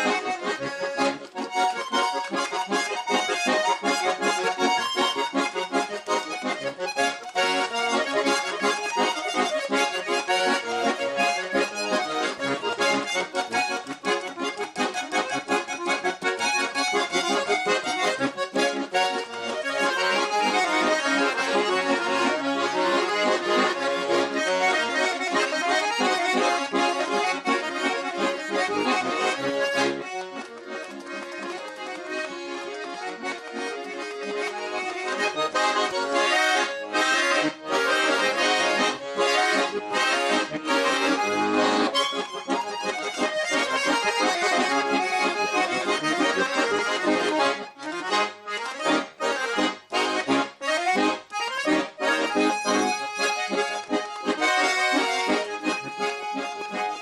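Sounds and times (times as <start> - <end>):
button accordion folk dance tune: 0.0 - 57.0.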